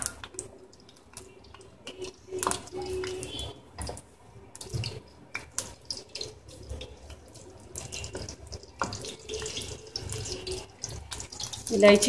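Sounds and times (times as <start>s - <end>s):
spices sizzling in hot fat: 0.0s - 12.0s.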